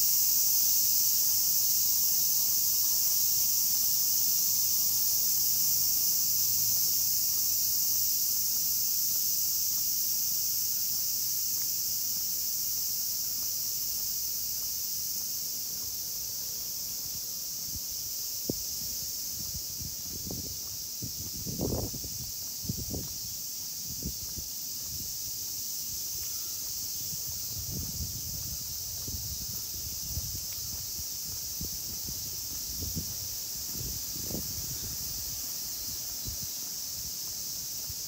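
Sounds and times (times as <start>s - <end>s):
cicadas droning: 0.0s - 38.0s.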